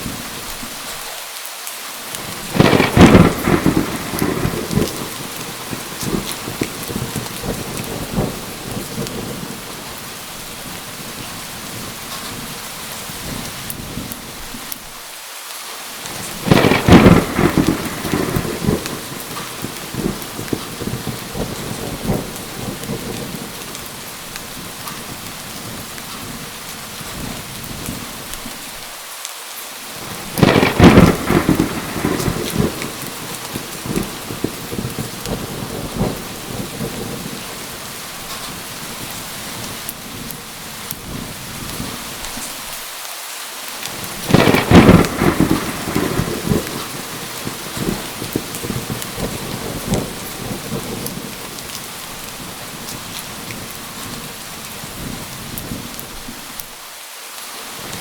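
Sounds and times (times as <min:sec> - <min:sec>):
steady rain falling: 0:00.0 - 0:58.0
thunder claps: 0:02.2 - 0:14.2, 0:16.1 - 0:28.5, 0:30.0 - 0:42.7, 0:43.9 - 0:56.7.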